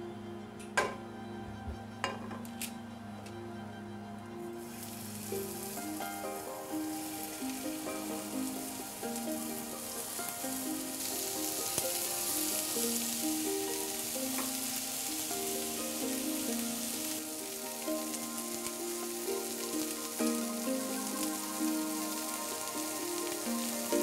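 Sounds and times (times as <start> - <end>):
light background melody: 0.0 - 24.0
meat sizzling in a frying pan: 4.6 - 24.0.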